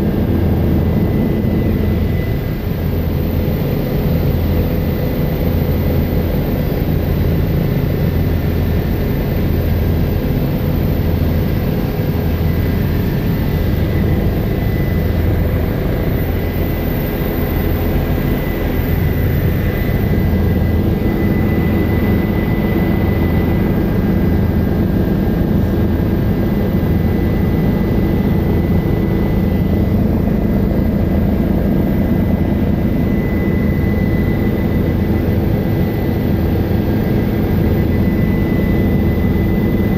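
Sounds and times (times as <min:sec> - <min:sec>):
helicopter rotor and engine drone: 0:00.0 - 0:39.9
high-pitched turbine whine: 0:00.0 - 0:39.9.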